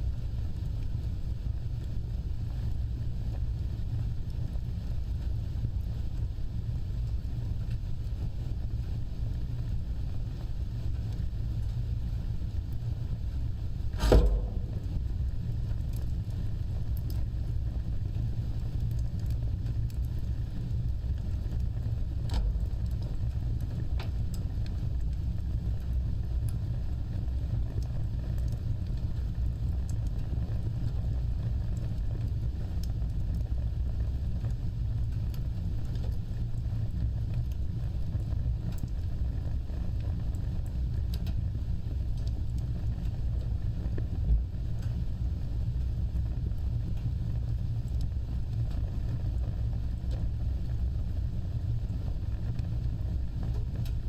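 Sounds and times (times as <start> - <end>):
wood fire rumbling: 0.0 - 54.0
fire crackling pops: 0.1 - 54.0.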